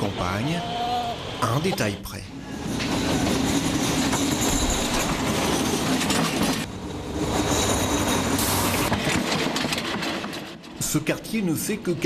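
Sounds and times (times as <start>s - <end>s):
train cars rumbling on rails: 0.0s - 12.0s.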